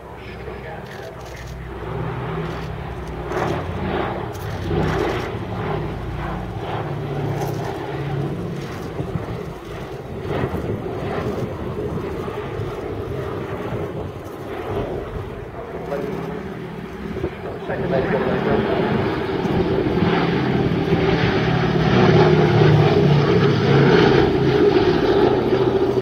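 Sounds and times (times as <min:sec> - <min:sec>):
propeller plane engines droning: 0:00.0 - 0:26.0.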